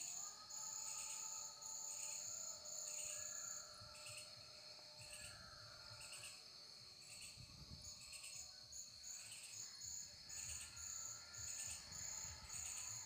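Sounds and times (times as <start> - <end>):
insect chirping trill: 0.0 - 13.0.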